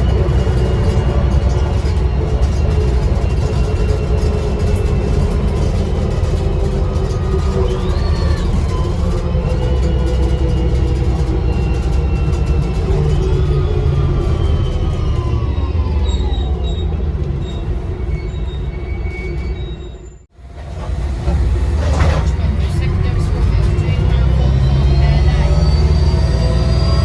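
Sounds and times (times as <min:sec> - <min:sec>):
bus engine running: 0:00.0 - 0:27.0.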